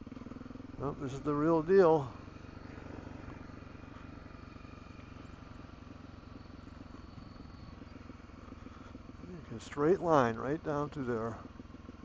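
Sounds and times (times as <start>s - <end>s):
car engine running: 0.0s - 12.0s
tyre and road noise: 0.0s - 12.0s.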